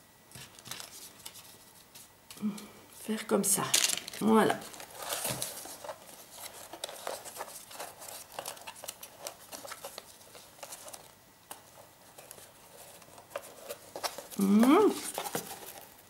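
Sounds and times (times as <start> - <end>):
cardboard and paper rustling: 0.3 - 2.4, 3.0 - 16.0.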